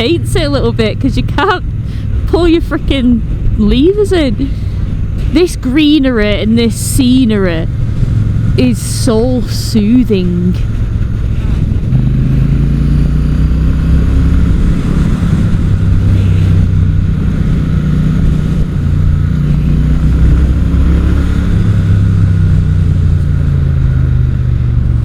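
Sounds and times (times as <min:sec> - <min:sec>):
wind rush: 0:00.0 - 0:25.0.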